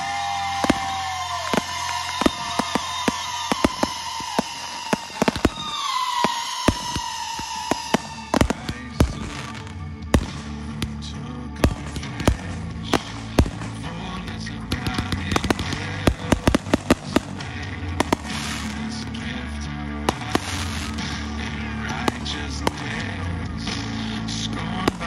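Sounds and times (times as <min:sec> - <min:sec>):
smaller firework cracks: 0:00.0 - 0:11.0, 0:11.6 - 0:14.0, 0:14.7 - 0:19.0, 0:20.1 - 0:24.1
fireworks bangs: 0:00.0 - 0:19.3, 0:20.0 - 0:25.0
background music: 0:00.0 - 0:25.0.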